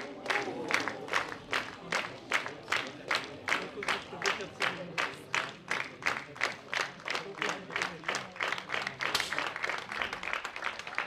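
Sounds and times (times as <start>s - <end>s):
spectators clapping in unison: 0.0s - 11.0s.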